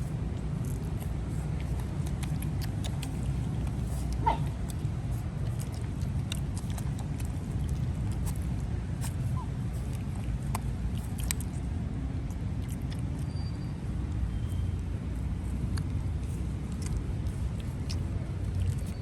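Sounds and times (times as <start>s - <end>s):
puppies drinking milk: 0.0s - 19.0s.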